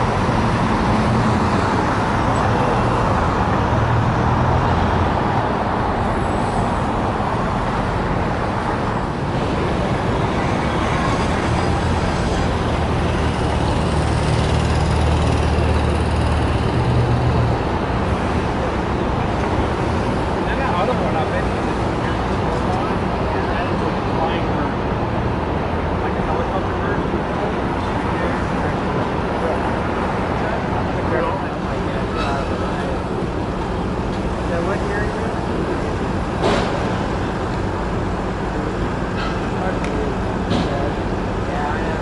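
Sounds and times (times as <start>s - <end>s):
city street traffic: 0.0s - 42.0s
low engine rumble: 0.0s - 42.0s.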